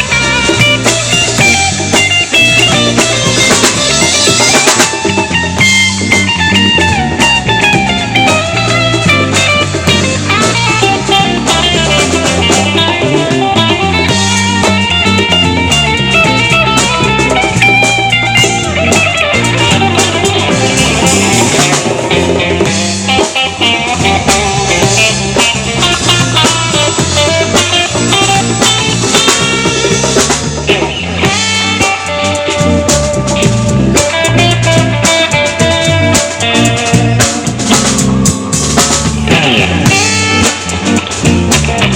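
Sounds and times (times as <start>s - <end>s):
live band playing instrumental: 0.0s - 41.9s
steady drum beat: 0.0s - 41.9s.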